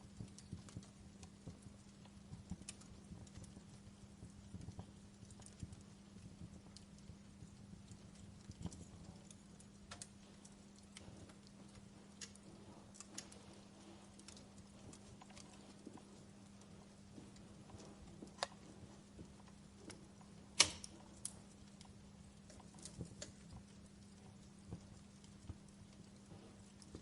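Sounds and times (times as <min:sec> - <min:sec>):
faint steady hum: 0:00.0 - 0:27.0
wood fire crackling and popping: 0:00.0 - 0:27.0.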